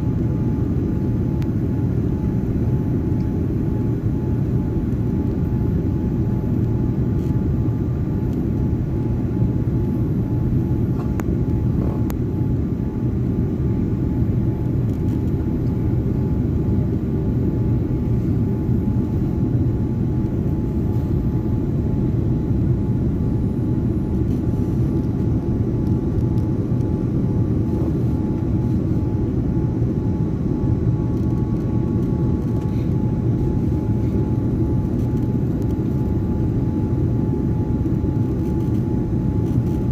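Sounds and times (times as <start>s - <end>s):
airliner cabin rumble: 0.0s - 39.9s
faint constant whine: 0.0s - 39.9s.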